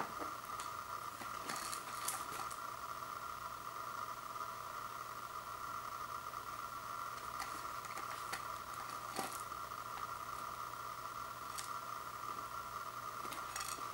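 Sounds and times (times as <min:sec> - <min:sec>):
constant whine: 0:00.0 - 0:13.9.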